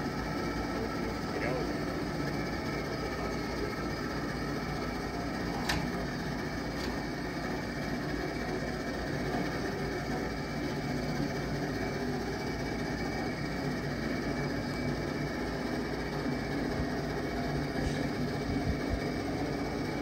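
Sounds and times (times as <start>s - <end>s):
excavator engine idling: 0.0s - 20.0s.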